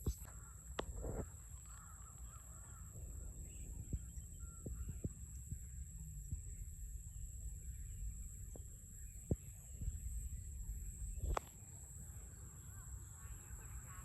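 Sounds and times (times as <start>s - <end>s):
low wind rumble: 0.0s - 13.8s
faint bird chirps: 0.0s - 14.0s
insect drone: 0.0s - 14.0s.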